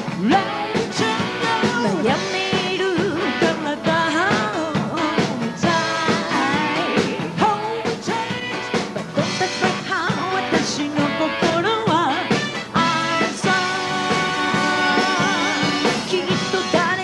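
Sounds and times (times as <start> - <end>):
drums hitting steadily: 0.0 - 17.0
live band playing: 0.0 - 17.0
woman singing into a microphone: 0.1 - 17.0.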